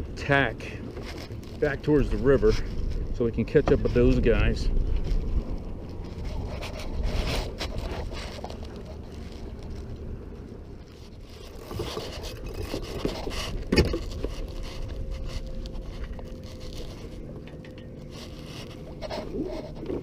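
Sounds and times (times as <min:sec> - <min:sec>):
rope and gear scraping: 0:00.0 - 0:20.0.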